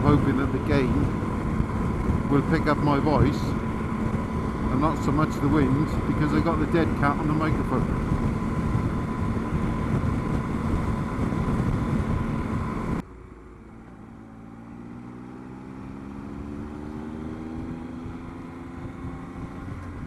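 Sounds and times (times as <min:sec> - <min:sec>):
wind noise: 0:00.0 - 0:13.0, 0:16.0 - 0:20.0
motorcycle engine: 0:00.0 - 0:20.0.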